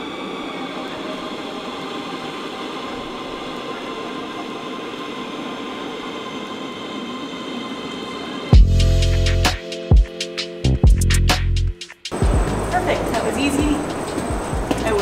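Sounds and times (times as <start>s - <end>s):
high train whine: 0.0s - 15.0s
metro train running noise: 0.0s - 15.0s.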